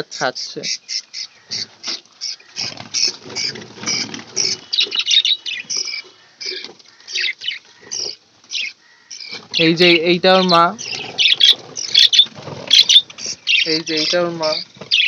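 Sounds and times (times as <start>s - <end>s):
budgerigars chirping and chattering: 0.1s - 15.0s
rustle of birds moving: 0.4s - 15.0s.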